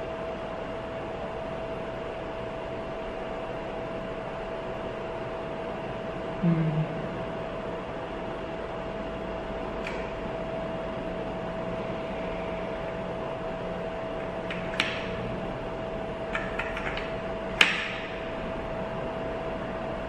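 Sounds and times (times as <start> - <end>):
cooling fan whirring: 0.0 - 20.0.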